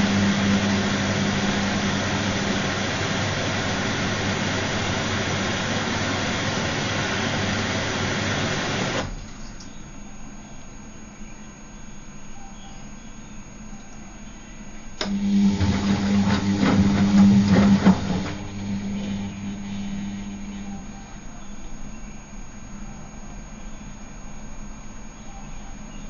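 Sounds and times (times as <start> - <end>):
washing machine whirring: 0.0 - 26.0.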